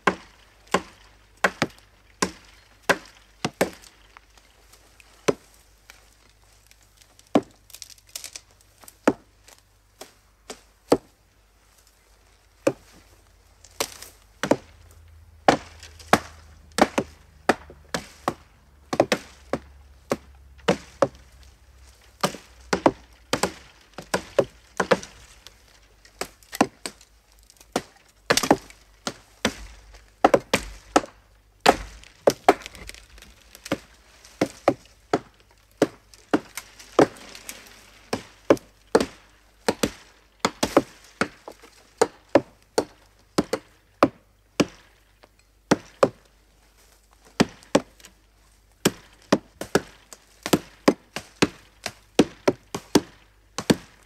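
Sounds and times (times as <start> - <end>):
axe chopping wood: 0.0 - 4.0, 5.2 - 5.6, 7.1 - 9.3, 10.0 - 11.2, 12.6 - 13.0, 13.6 - 45.0, 45.7 - 46.3, 47.3 - 48.1, 48.8 - 54.0.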